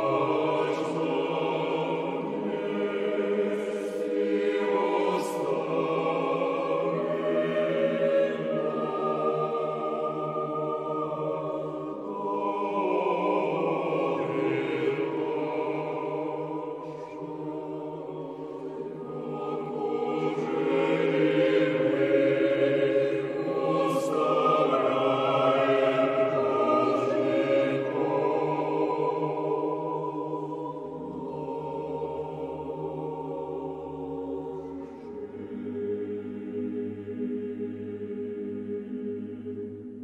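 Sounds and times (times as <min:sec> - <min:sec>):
choir singing sustained chords: 0:00.0 - 0:40.0.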